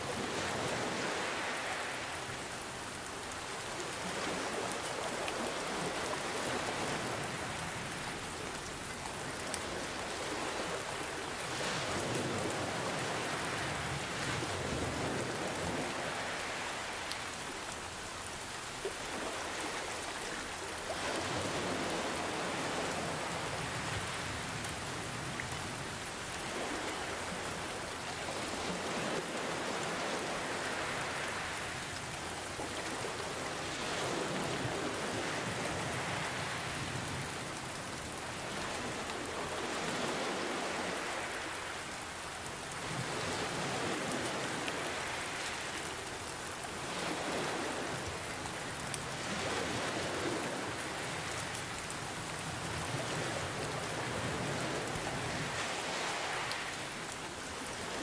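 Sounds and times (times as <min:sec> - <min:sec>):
ocean waves washing in: 0:00.0 - 0:58.0
steady rain: 0:00.0 - 0:58.0.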